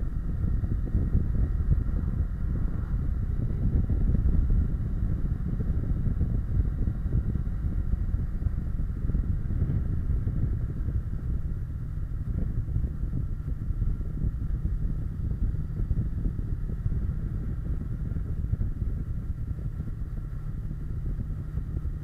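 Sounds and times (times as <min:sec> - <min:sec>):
motorcycle engine cruising: 0:00.0 - 0:22.0
wind buffeting microphone: 0:00.0 - 0:22.0.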